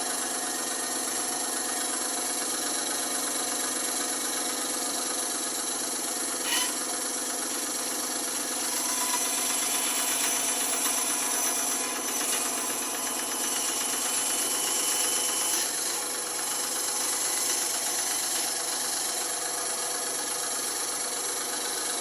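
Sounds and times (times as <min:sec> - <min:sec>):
band saw running: 0:00.0 - 0:22.0.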